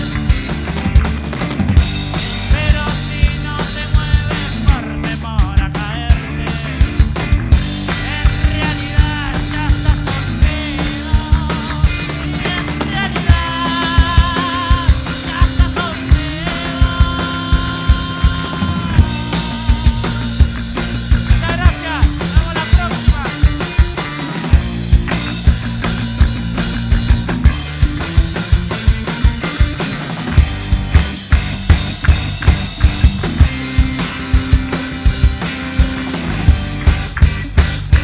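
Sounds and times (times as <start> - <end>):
bass: 0.0 - 38.0
hard-hit drum beat: 0.0 - 38.0.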